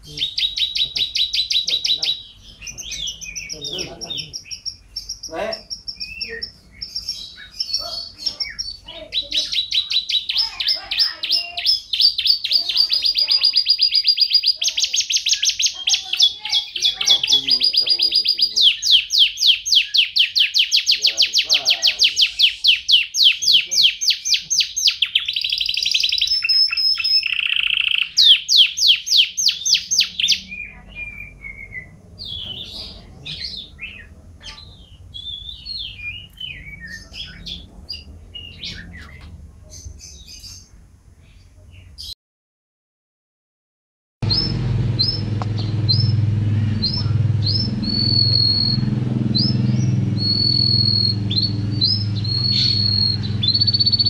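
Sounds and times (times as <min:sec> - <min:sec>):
canary singing fast trills: 0:00.0 - 0:40.8, 0:44.2 - 0:54.0
soft bird chirps: 0:00.0 - 0:42.2, 0:44.2 - 0:54.0.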